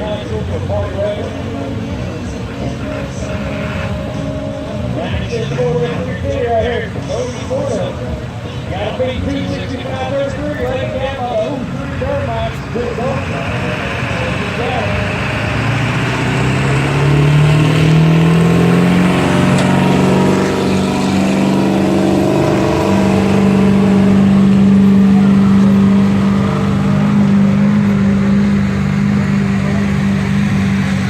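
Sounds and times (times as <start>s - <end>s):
truck engine under heavy load: 0.0s - 31.0s.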